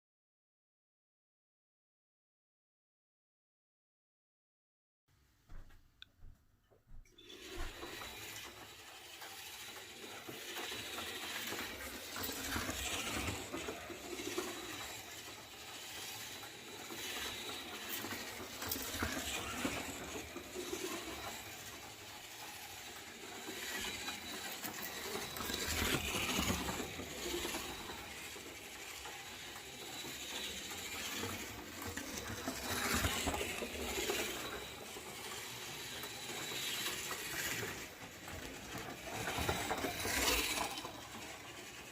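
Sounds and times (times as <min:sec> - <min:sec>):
slot car motor whirring and rattling: 0:07.2 - 0:41.9.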